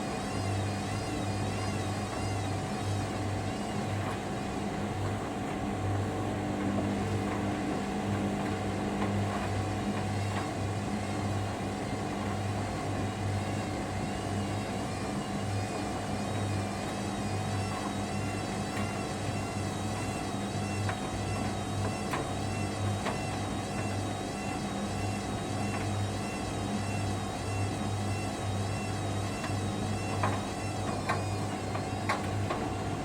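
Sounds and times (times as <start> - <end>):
washing machine drum spinning: 0.0 - 33.0.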